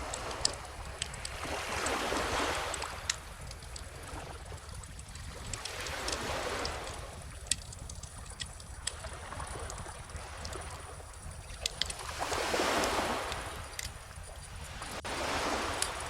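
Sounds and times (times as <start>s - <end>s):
bonfire crackling: 0.0s - 16.0s
ocean waves: 0.0s - 16.0s.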